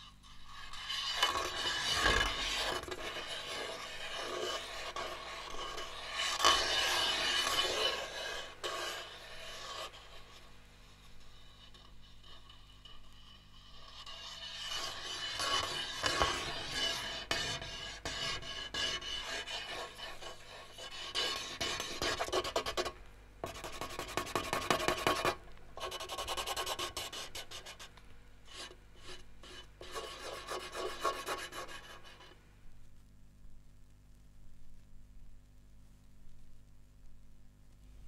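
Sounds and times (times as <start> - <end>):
rapid rasping scraping: 0.0 - 27.9, 28.5 - 32.4
steady low hum: 0.0 - 38.0.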